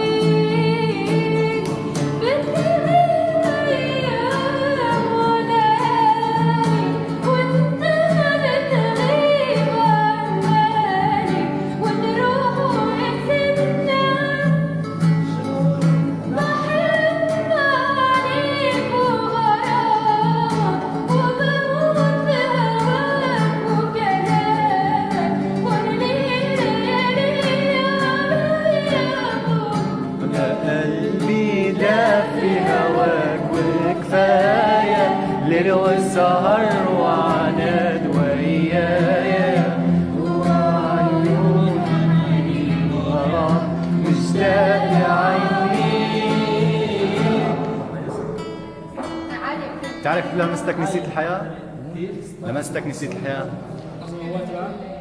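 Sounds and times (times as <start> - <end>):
instrumental accompaniment: 0.0 - 50.7.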